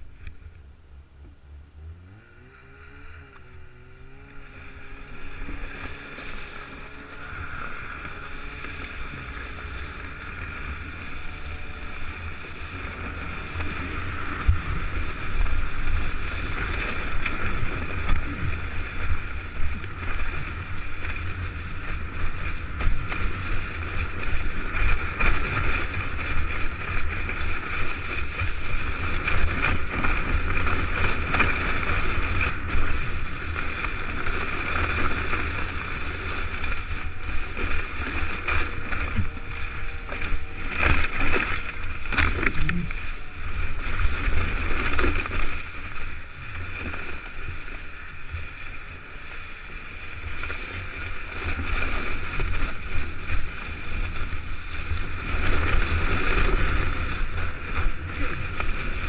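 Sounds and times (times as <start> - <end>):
sled rumbling over snow: 0.0 - 59.0
snowmobile engine revving: 1.4 - 59.0
wind on microphone: 2.9 - 59.0.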